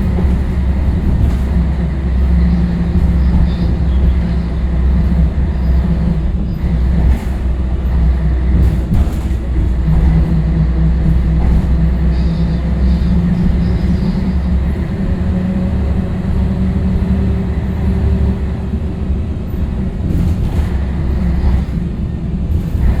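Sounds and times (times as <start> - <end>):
diesel bus engine droning: 0.0 - 23.0.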